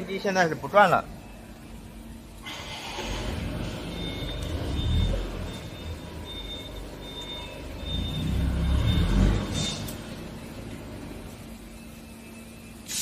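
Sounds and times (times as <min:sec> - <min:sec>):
faint high-pitched machinery tone: 0:00.0 - 0:13.0.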